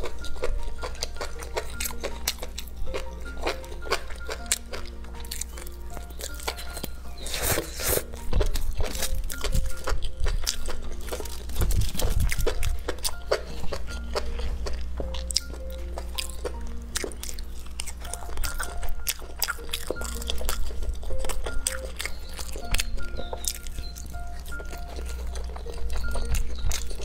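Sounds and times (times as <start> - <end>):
close chewing and crunching: 0.0 - 27.0
slow background music: 0.0 - 27.0.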